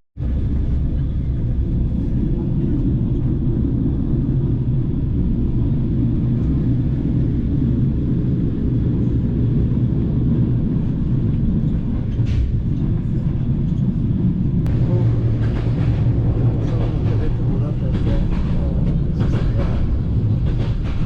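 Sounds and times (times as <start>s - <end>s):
train wheels rumbling on rail: 0.2s - 21.0s.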